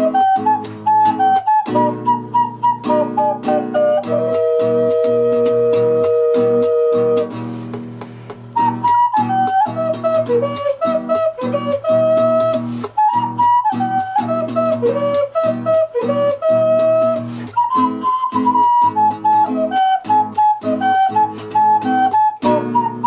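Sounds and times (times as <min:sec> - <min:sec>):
ocarina melody: 0:00.0 - 0:23.0.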